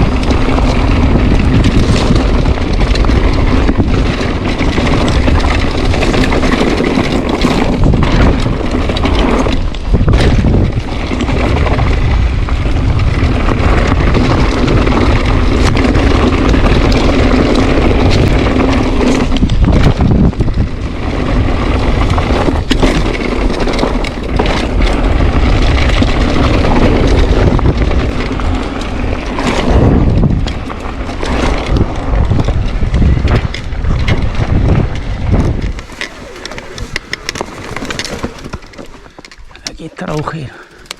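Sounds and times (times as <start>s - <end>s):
bike rattling and knocking: 0.0s - 40.9s
wind rushing over microphone: 0.0s - 40.9s.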